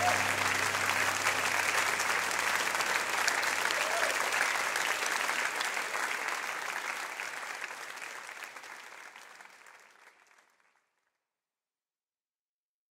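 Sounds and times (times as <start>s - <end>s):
crowd clapping: 0.0s - 11.1s.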